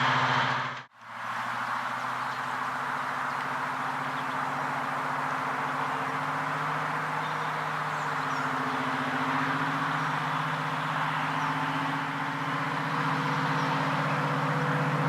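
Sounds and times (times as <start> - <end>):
large engine idling: 0.0 - 15.0.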